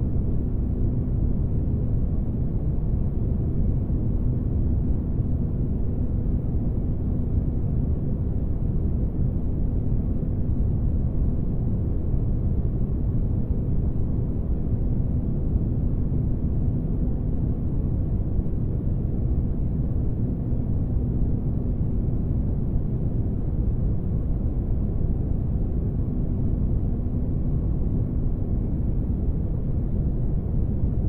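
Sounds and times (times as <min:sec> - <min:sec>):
faint constant hum: 0:00.0 - 0:31.0.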